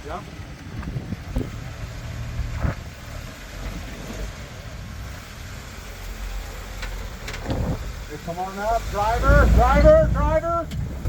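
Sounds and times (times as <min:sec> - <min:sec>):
engine running low: 0:00.2 - 0:11.0.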